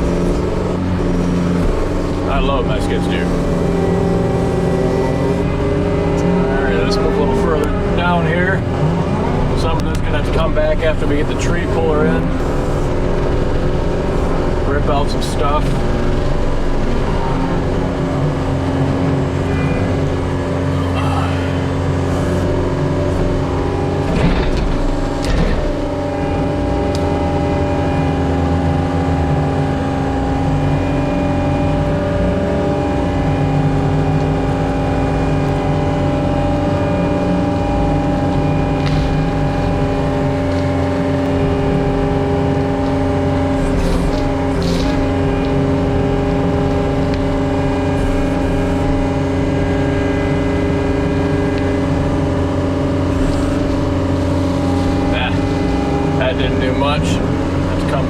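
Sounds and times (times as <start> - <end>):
diesel engine under load: 0.0 - 58.0.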